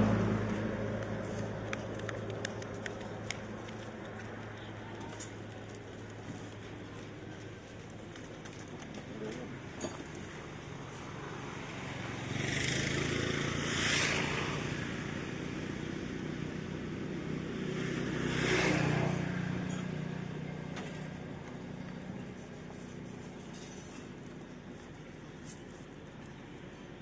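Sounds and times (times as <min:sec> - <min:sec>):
low engine hum: 0:00.0 - 0:27.0
vehicles passing on highway: 0:00.0 - 0:27.0.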